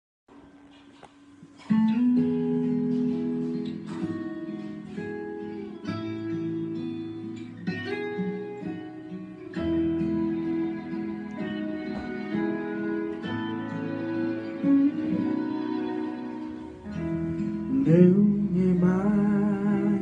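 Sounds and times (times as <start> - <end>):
acoustic guitar strumming chords: 1.4 - 20.0.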